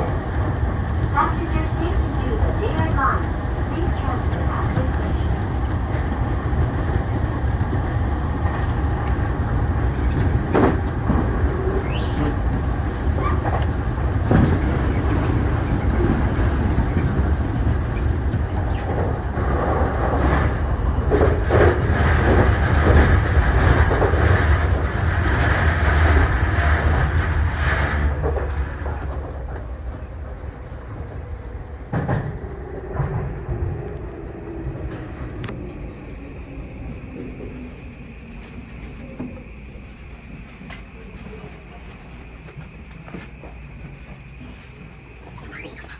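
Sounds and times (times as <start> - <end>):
wheel-on-rail noise: 1.2 - 32.2, 34.7 - 45.9.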